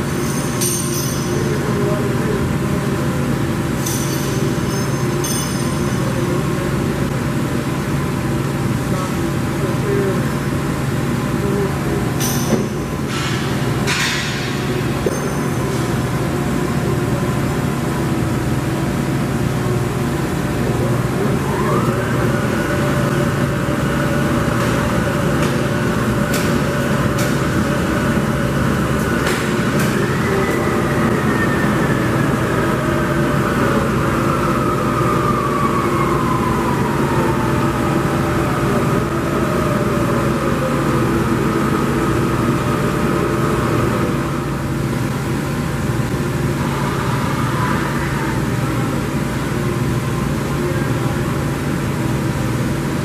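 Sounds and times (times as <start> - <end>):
lathe hum and motor whine: 0.0 - 53.0.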